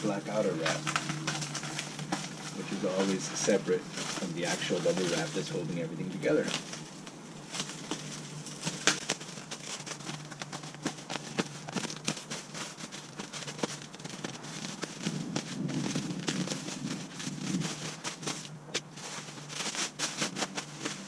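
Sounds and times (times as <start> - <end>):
plastic wrap crinkling: 0.0 - 21.0.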